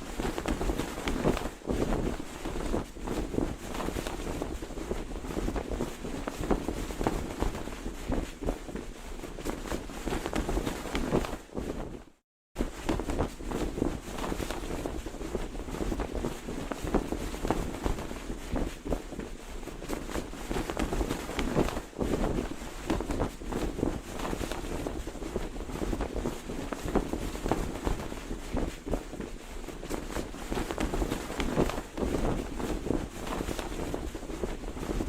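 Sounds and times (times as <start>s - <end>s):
flag flapping and snapping: 0.0s - 35.0s.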